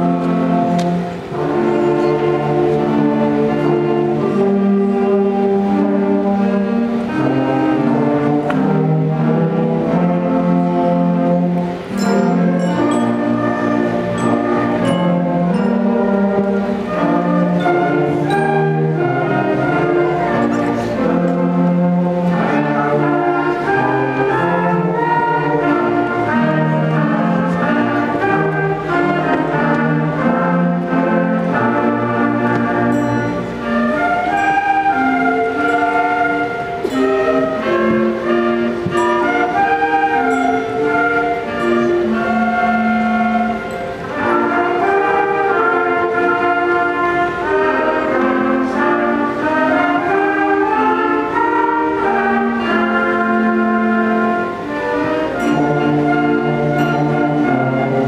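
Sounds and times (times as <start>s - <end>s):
concert band playing slow chords: 0.0s - 58.0s.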